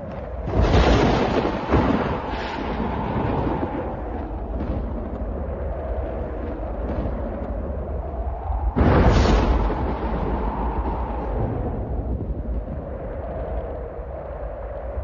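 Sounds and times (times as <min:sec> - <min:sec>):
low thunder rumbling: 0:00.0 - 0:15.0
thunderclap: 0:00.0 - 0:15.0.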